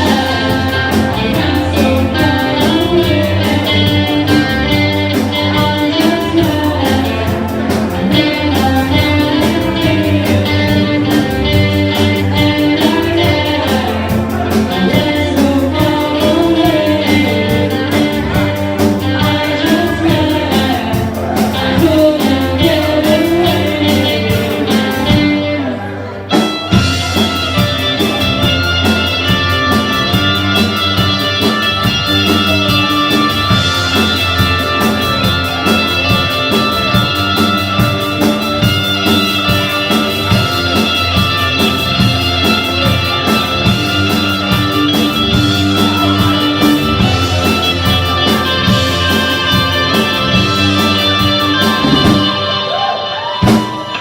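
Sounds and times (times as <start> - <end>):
drums: 0.0 - 54.0
electric guitar: 0.0 - 54.0
person singing: 0.0 - 54.0.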